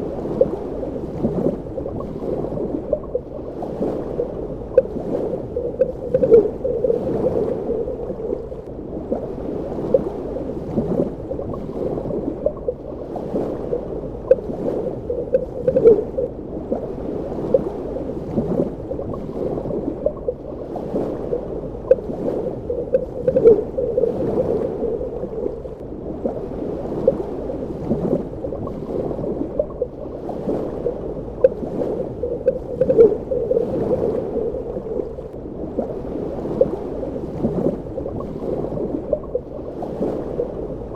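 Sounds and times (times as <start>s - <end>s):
bubbling gurgles: 0.0s - 16.8s, 17.5s - 40.9s
muffled wash of water: 0.0s - 40.9s.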